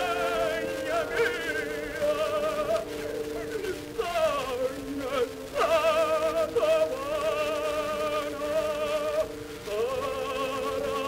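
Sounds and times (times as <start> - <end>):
musical accompaniment: 0.0 - 11.0
operatic tenor singing: 0.0 - 11.0.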